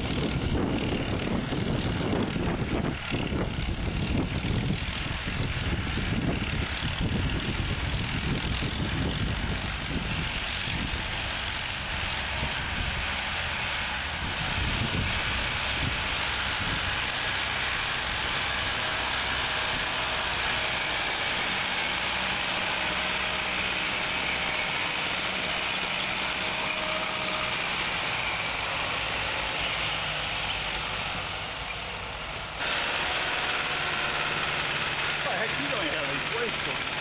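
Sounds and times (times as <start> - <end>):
tractor engines running: 0.0 - 37.0.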